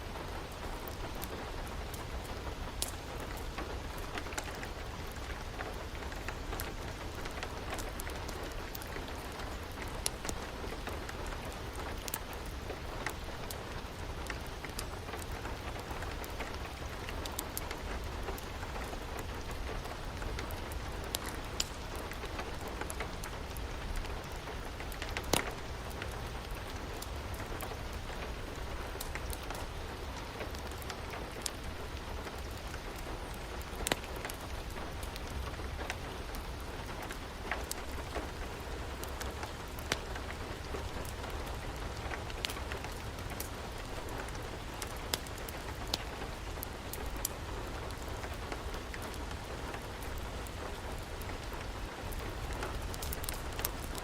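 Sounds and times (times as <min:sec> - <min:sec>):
fireplace crackling and popping: 0:00.0 - 0:54.0
steady rain: 0:00.0 - 0:54.0.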